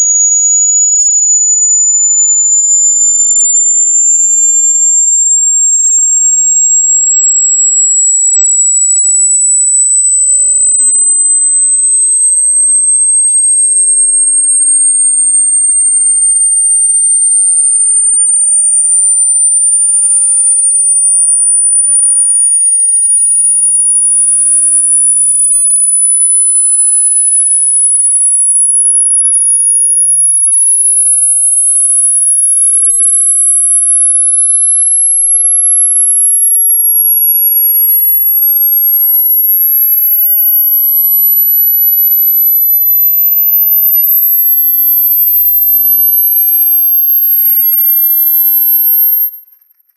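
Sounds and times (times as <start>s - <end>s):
high-pitched rising sine tone: 0.0s - 49.9s.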